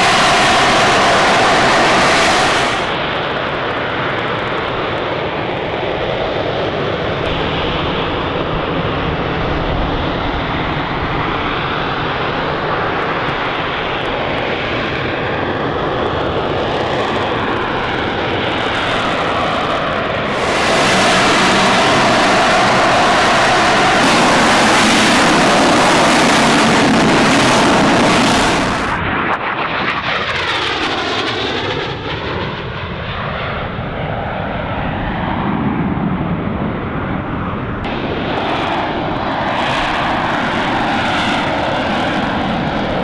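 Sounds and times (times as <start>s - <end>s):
loud jet roar: 0.0s - 43.0s.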